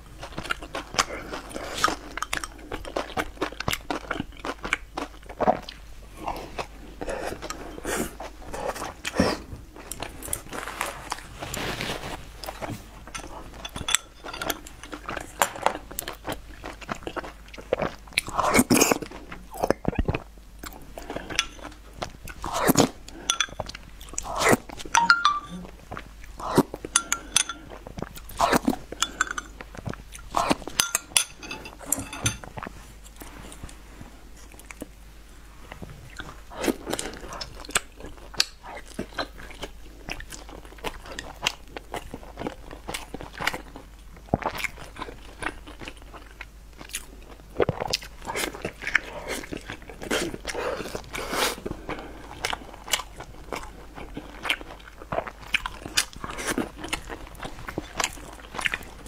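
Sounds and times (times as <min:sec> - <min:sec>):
chewing and crunching: 0:00.0 - 0:25.0, 0:25.7 - 0:59.0.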